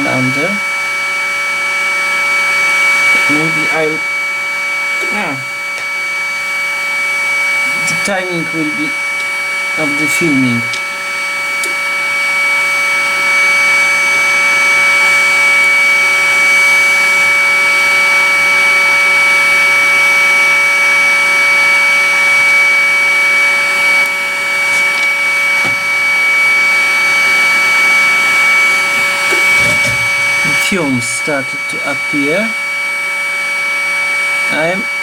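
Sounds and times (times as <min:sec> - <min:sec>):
hot-air blower whirring: 0:00.0 - 0:35.0.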